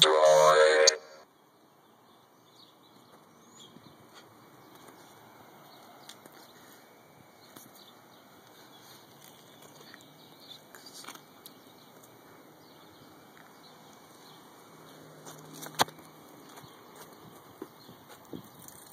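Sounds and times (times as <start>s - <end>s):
faint outdoor hiss: 0.0s - 18.9s.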